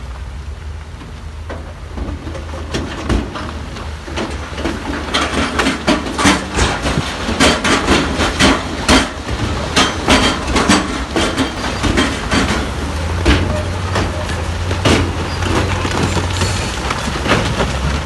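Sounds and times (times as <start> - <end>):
diesel engine droning: 0.1 - 18.0.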